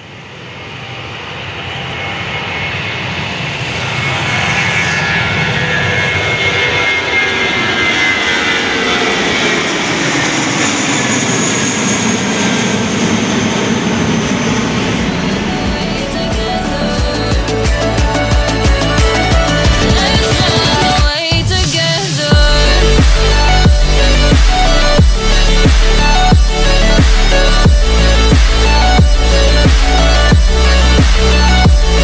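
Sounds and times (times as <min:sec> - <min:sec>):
airliner engines roaring: 0:00.0 - 0:32.0
high engine whine: 0:00.0 - 0:32.0.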